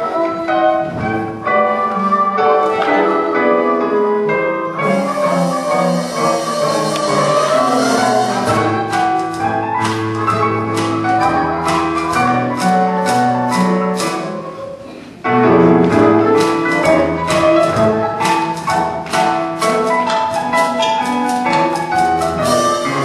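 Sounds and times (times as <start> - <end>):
pit orchestra show music: 0.0 - 23.0.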